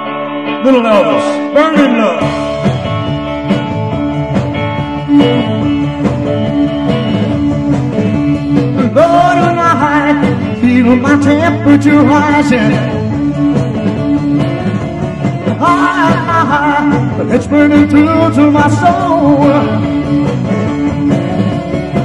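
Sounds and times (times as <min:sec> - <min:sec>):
bass guitar: 0:00.0 - 0:22.0
drums: 0:00.0 - 0:22.0
electric guitar: 0:00.0 - 0:22.0.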